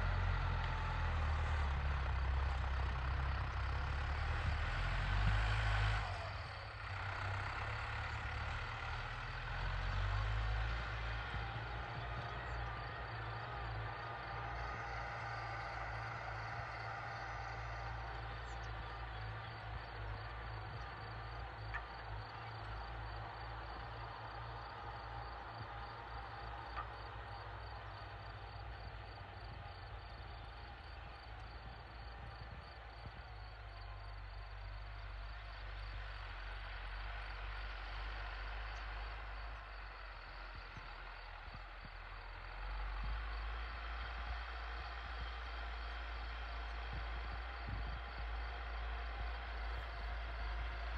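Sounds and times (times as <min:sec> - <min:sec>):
distant tractor engine humming: 0:00.0 - 0:50.9.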